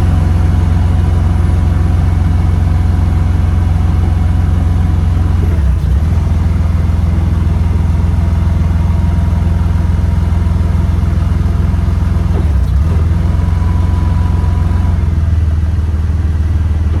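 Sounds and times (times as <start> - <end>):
heavy machine engine humming: 0.0 - 17.0.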